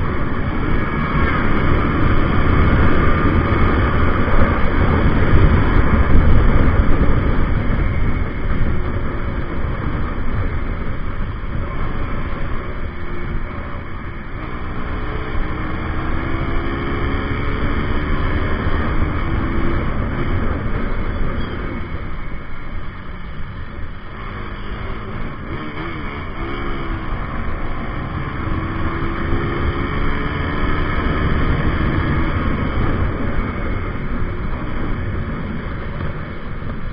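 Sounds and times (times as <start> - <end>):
motorcycle engine accelerating: 0.0 - 36.9
wind rushing over microphone: 0.0 - 36.9.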